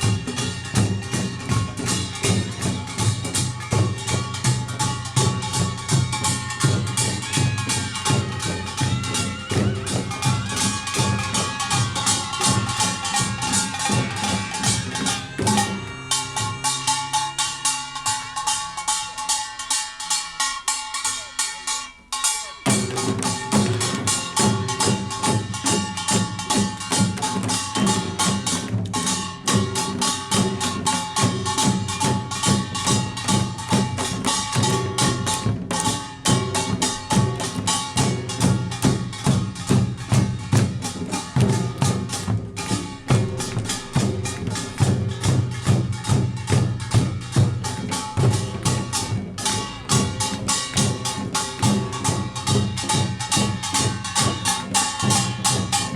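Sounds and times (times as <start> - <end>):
drums: 0.0 - 55.9
percussion band playing: 0.0 - 55.9
small gongs clanging: 0.0 - 55.9.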